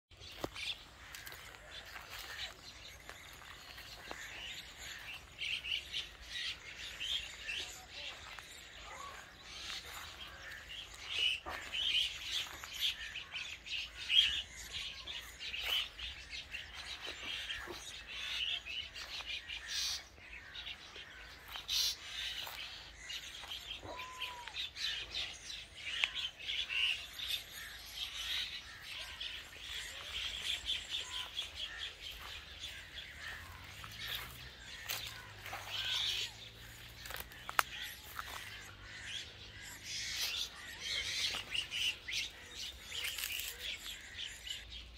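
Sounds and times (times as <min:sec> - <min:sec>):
bird chicks chirping and squawking: 0:00.1 - 0:44.9.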